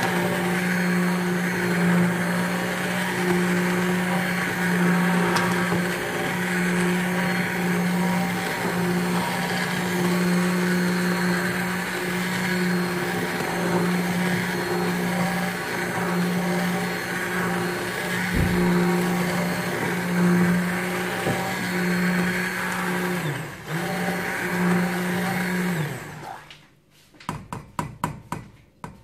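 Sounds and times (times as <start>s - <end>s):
immersion blender running: 0.0s - 26.6s.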